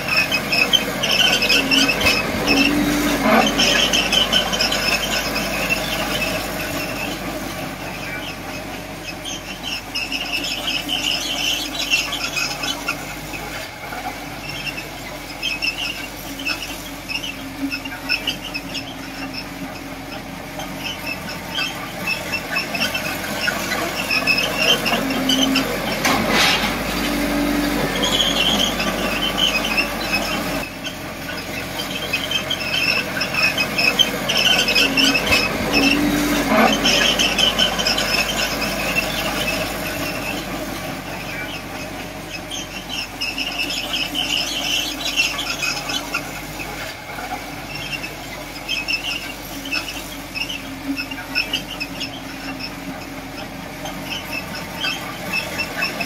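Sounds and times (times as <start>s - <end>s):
crawler tracks squealing: 0.0s - 56.0s
diesel engine drone: 0.0s - 56.0s.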